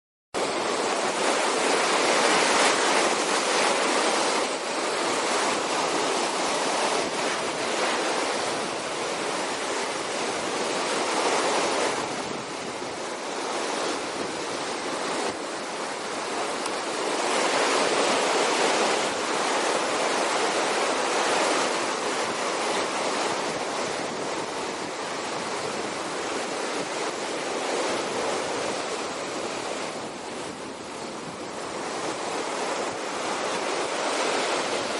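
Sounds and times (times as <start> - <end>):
surf waves breaking on sand: 0.4 - 34.9.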